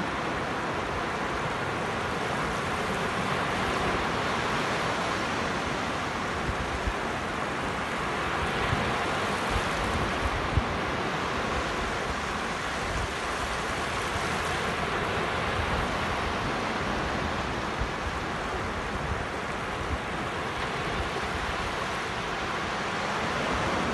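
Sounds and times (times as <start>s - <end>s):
sea surf breaking on beach: 0.0s - 23.9s.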